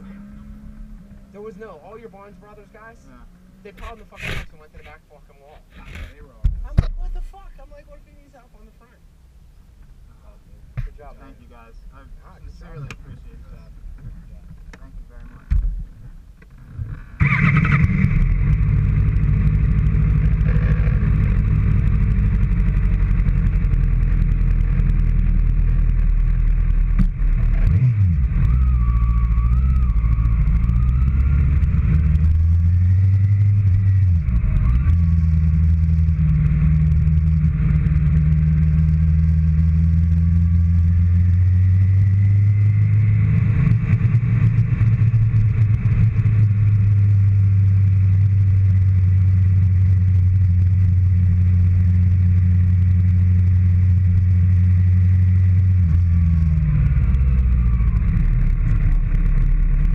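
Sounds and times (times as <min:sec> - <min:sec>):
vehicle engine running: 0:00.0 - 0:08.9, 0:09.6 - 0:59.9.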